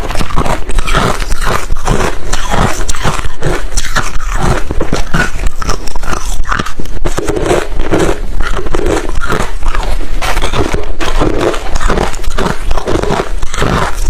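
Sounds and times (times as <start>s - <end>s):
ice crunching between teeth: 0.0s - 14.0s.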